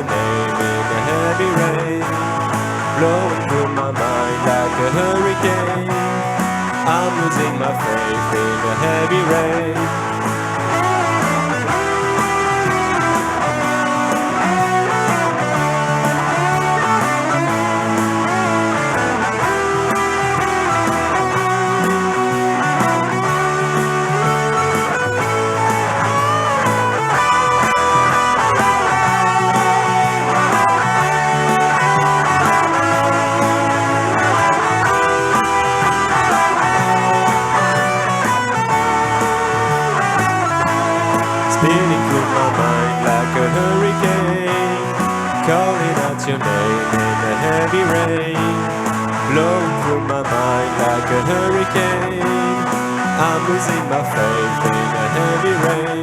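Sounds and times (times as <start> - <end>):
bass: 0.0 - 56.0
electric guitar lead: 0.0 - 56.0
steady drum beat: 0.0 - 56.0.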